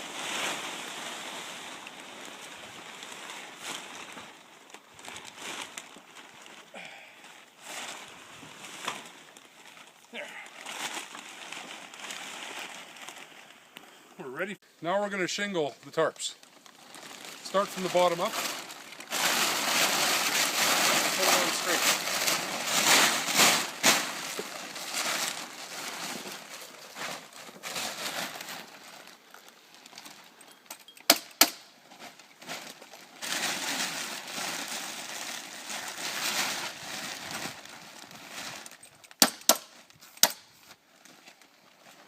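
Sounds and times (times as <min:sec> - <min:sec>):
plastic tarp rustling: 0:00.0 - 0:30.6, 0:31.8 - 0:42.0.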